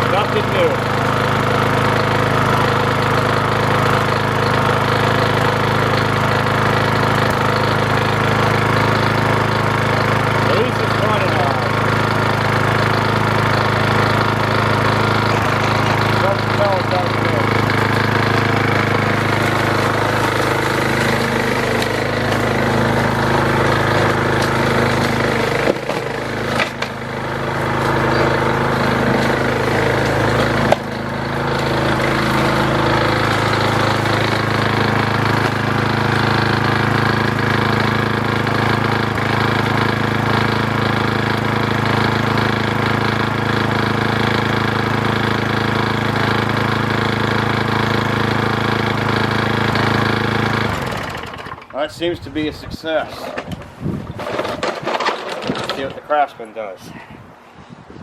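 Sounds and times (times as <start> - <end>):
push-mower engine running: 0.0 - 57.6.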